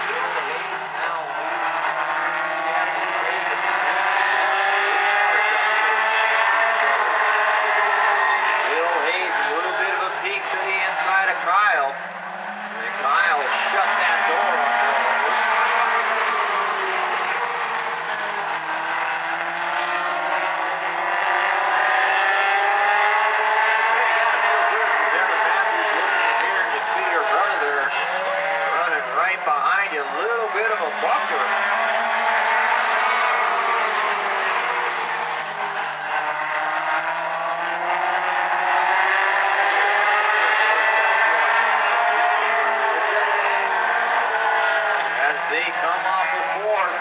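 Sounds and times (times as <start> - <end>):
race car engines passing: 0.0 - 47.0.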